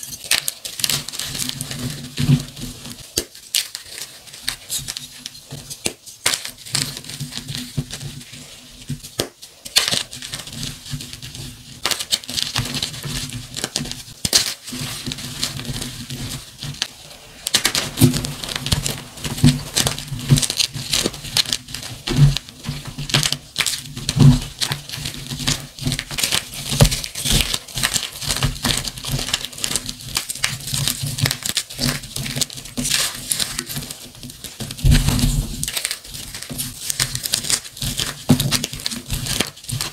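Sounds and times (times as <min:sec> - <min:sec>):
hands crushing chalk: 0:00.0 - 0:39.9.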